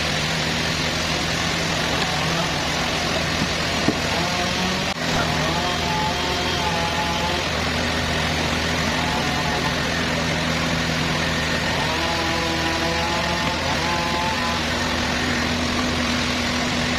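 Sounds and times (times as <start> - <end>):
sawmill machinery engine running: 0.0 - 16.9.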